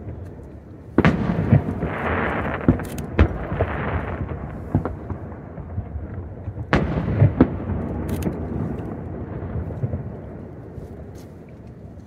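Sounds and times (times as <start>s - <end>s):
firework shells booming: 0.0s - 10.6s.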